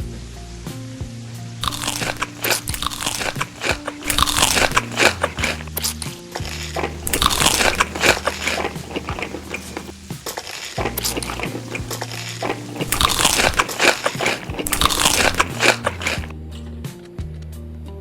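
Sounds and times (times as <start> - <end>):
crunchy food being chewed: 1.6 - 16.4.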